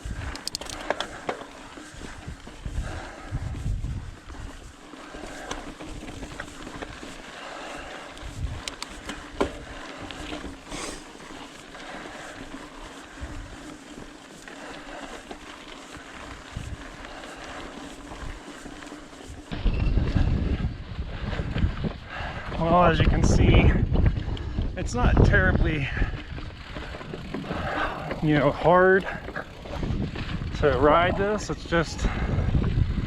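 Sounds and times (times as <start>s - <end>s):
wind buffeting microphone: 0.0s - 10.8s, 11.8s - 14.0s, 14.9s - 33.0s
mountain bike rolling over rocks: 0.0s - 33.0s.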